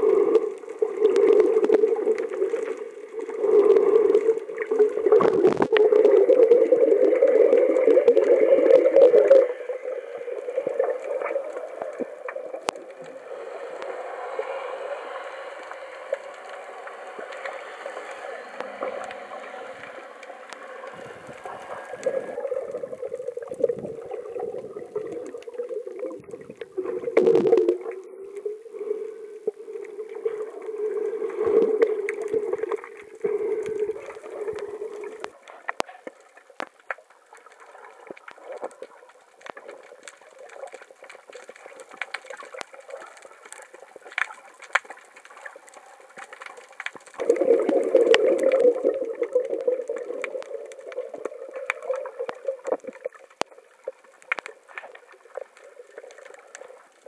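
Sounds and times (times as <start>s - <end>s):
small underwater clicks: 0.0s - 57.0s
underwater gurgling and rushing: 0.0s - 57.0s.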